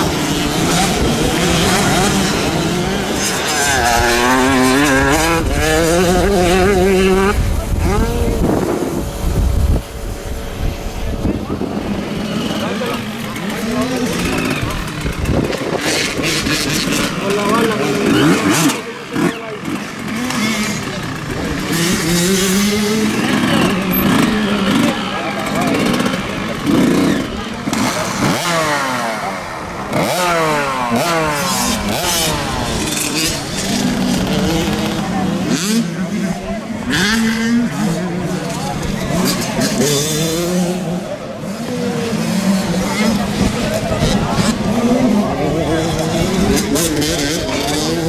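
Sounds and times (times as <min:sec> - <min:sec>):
motorcycle engines revving: 0:00.0 - 0:48.0.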